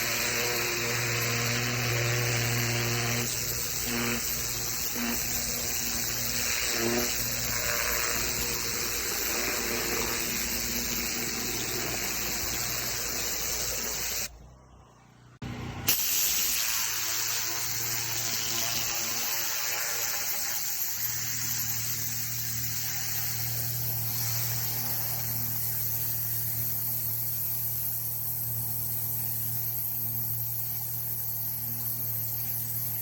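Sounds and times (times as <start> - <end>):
high-pressure water jet hissing: 0.0 - 14.3, 15.9 - 33.0
pressure washer motor humming: 0.0 - 14.8, 15.4 - 33.0.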